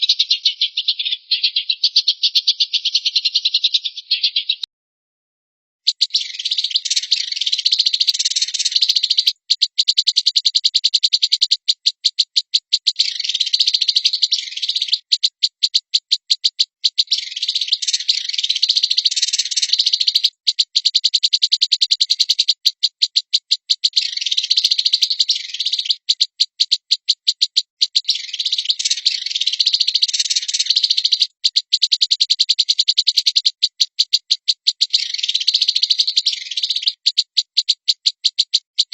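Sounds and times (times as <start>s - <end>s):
bird scratchy chatter: 0.0s - 4.6s, 5.9s - 38.9s
bird rattling trill: 5.9s - 38.9s.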